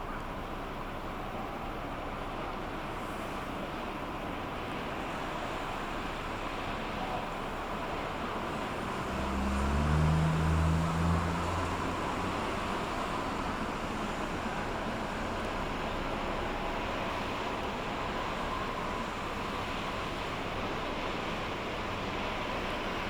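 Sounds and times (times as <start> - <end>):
ship engine droning: 0.0 - 23.0.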